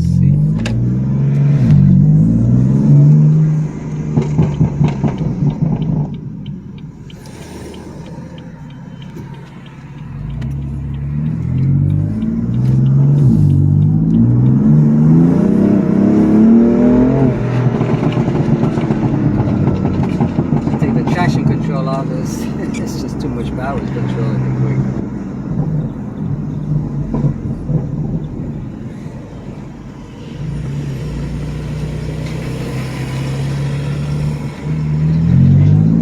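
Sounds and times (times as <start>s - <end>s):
car engine accelerating through upshifts: 0.0s - 36.0s.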